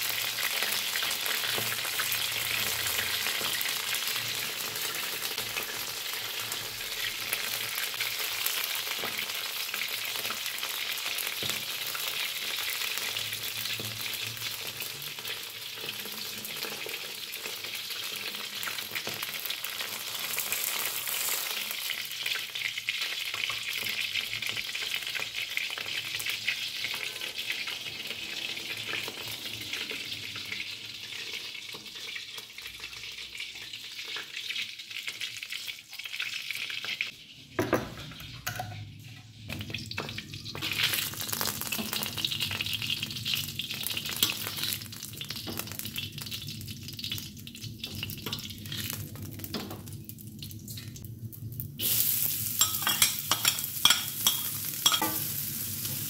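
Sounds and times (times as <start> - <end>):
oil sizzling in a wok: 0.0 - 56.0.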